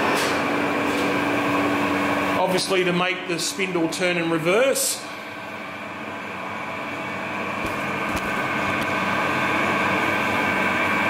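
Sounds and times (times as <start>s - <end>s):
metal lathe humming and whining: 0.4s - 11.0s.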